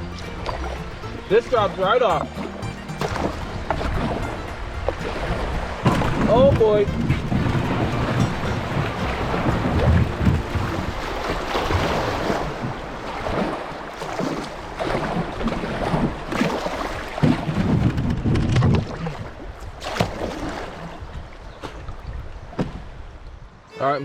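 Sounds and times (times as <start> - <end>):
water rushing and splashing: 0.0 - 24.0
wind buffeting microphone: 2.6 - 23.7.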